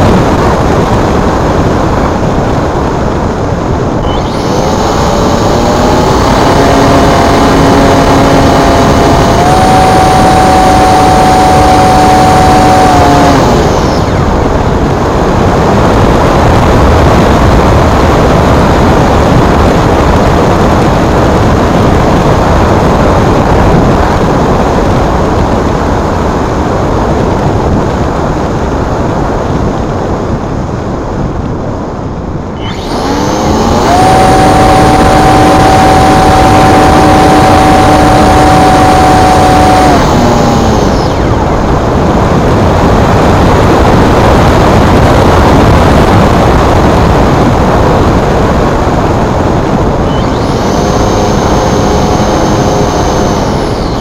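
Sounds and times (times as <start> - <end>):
electric motor whining: 0.0 - 25.8, 32.5 - 54.0
wind noise rushing: 0.0 - 54.0.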